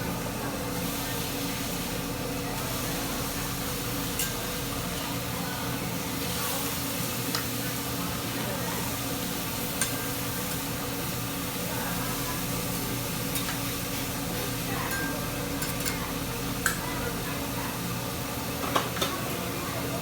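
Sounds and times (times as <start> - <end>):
faint background voices: 0.0 - 20.0.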